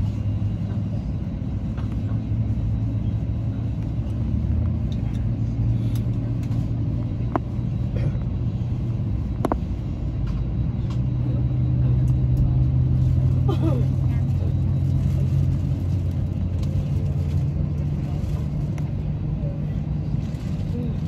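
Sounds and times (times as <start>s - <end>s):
aircraft cabin drone: 0.0s - 21.0s.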